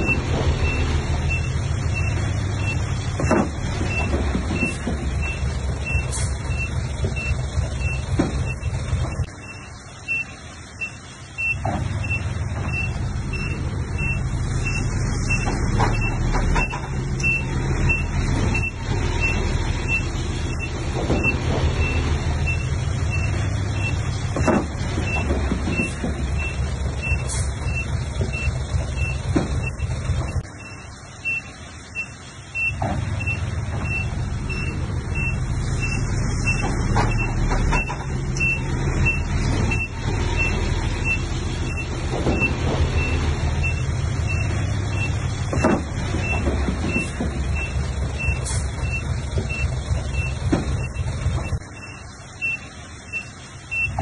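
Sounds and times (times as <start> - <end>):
bulldozer diesel engine under load: 0.0 - 54.0
reversing alarm beeping: 0.0 - 54.0.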